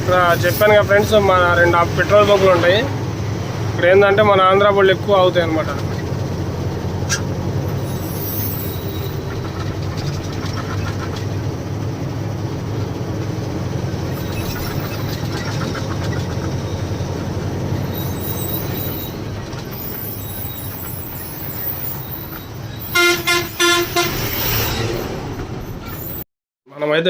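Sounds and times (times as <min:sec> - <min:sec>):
lorry diesel engine rumble: 0:00.0 - 0:26.2
rattling in truck cab: 0:00.0 - 0:26.2.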